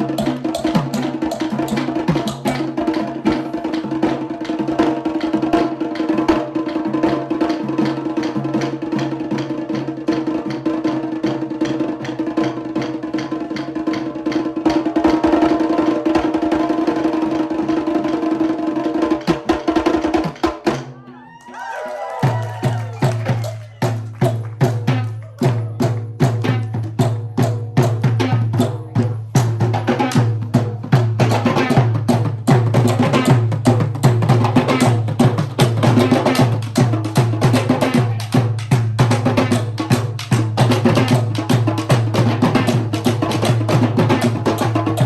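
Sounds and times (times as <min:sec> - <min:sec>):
drum ensemble playing fast rhythm: 0:00.0 - 0:45.0.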